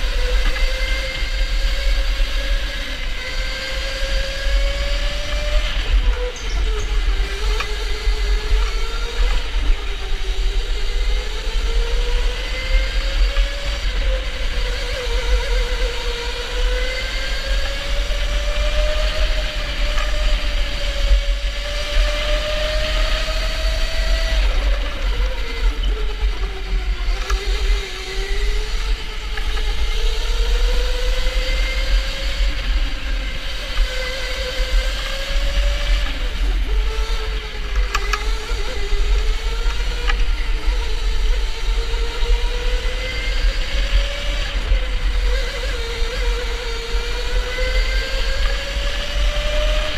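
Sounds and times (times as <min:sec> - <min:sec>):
electric go-kart motor whining: 0:00.0 - 0:49.9.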